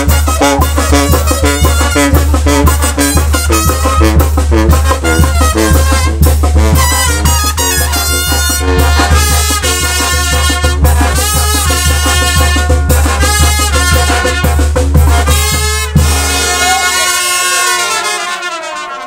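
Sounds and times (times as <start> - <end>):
brass band playing dance tune: 0.0 - 19.0.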